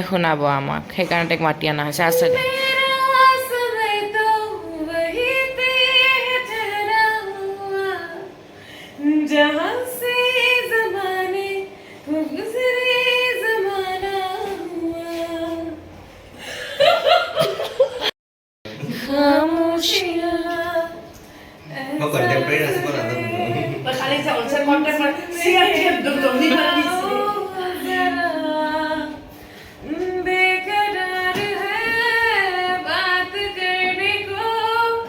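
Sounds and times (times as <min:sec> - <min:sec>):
woman singing unaccompanied: 0:02.0 - 0:08.4, 0:09.0 - 0:15.8, 0:18.8 - 0:35.0.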